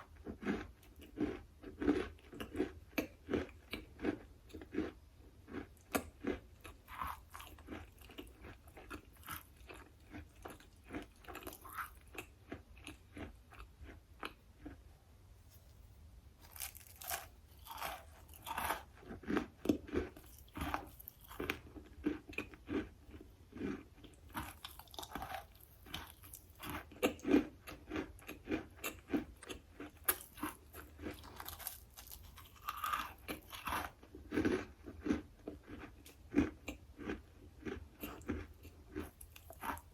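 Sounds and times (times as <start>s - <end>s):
crunchy chewing: 0.0s - 14.9s, 15.5s - 39.9s.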